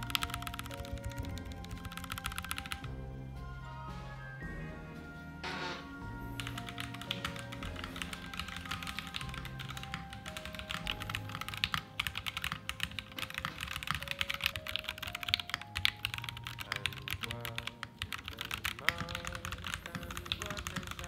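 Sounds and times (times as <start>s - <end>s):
fast mechanical keyboard typing: 0.0s - 2.8s, 6.4s - 21.0s
soft background music: 0.0s - 21.0s.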